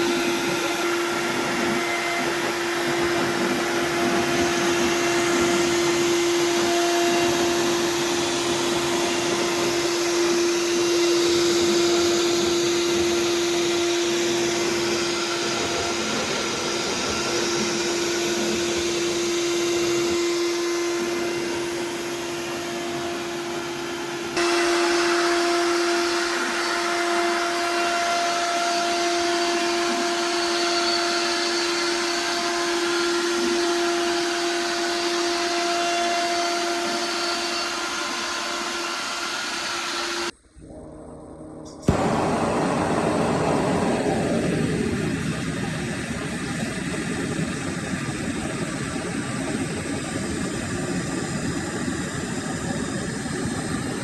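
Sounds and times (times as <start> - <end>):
hissing wood cutting noise: 0.0 - 40.4, 41.7 - 54.0
router spindle high-pitched hum: 0.0 - 54.0.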